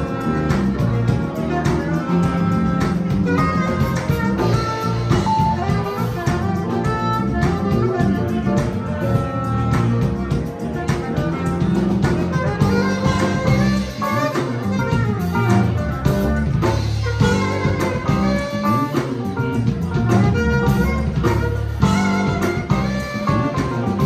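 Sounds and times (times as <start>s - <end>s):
drum kit: 0.0s - 24.0s
electric bass guitar: 0.0s - 24.0s
keyboard: 0.0s - 24.0s
saxophone: 0.0s - 24.0s.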